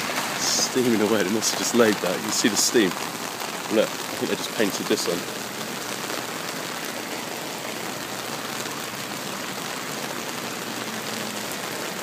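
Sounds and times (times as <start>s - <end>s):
rain on wet road: 0.0s - 12.0s.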